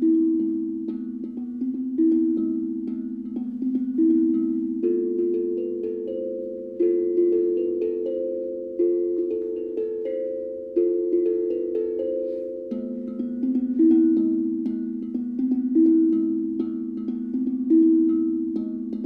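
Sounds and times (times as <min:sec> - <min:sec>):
steel tongue drum melody: 0:00.0 - 0:19.0.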